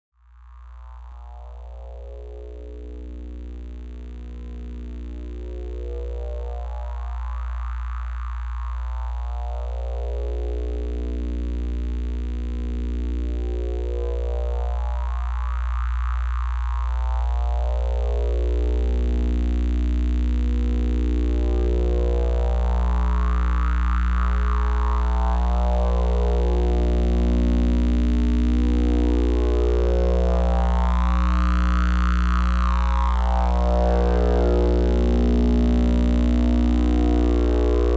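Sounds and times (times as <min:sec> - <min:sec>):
electronic oscillator drone: 0:00.8 - 0:37.9.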